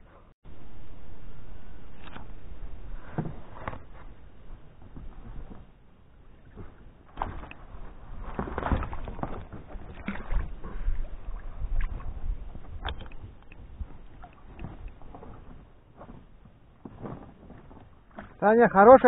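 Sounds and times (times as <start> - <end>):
water splashing and sloshing: 1.9 - 19.0.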